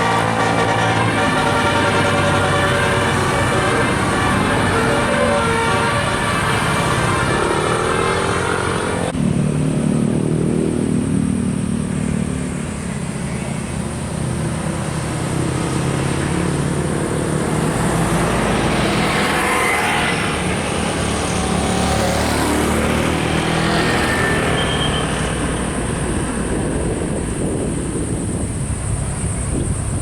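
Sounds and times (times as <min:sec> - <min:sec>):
traffic engine and tyre noise: 0:00.0 - 0:30.0.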